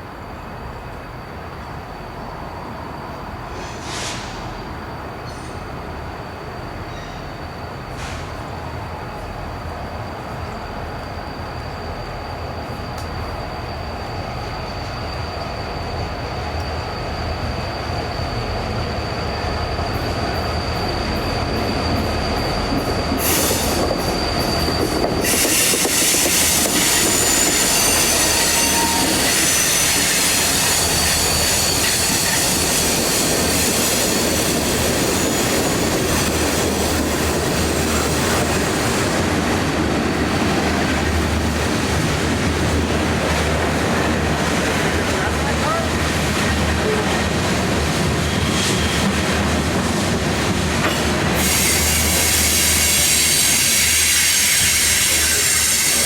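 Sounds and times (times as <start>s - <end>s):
train passing by: 0.0s - 56.0s
train wheels squealing: 0.0s - 56.0s.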